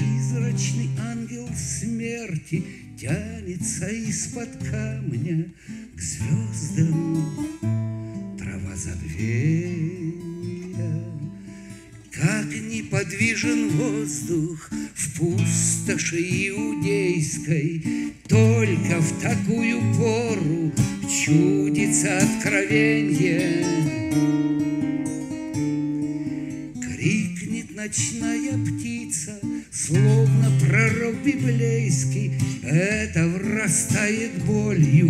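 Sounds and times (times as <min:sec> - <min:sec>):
man singing: 0:00.0 - 0:24.4, 0:26.7 - 0:35.0
acoustic guitar strumming: 0:00.0 - 0:35.0.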